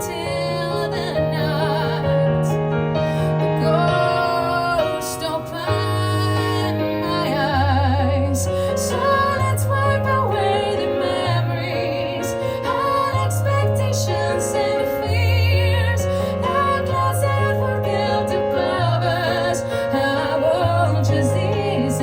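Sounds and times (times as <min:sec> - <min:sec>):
woman singing a slow ballad: 0:00.0 - 0:02.6, 0:03.3 - 0:22.0
piano chords: 0:00.0 - 0:22.0.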